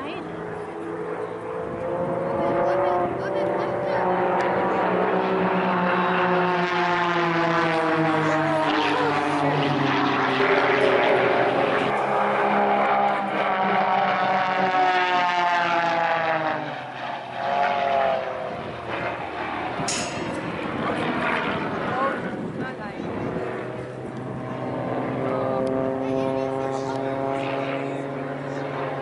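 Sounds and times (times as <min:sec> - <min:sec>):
propeller plane engine: 0:00.0 - 0:29.0.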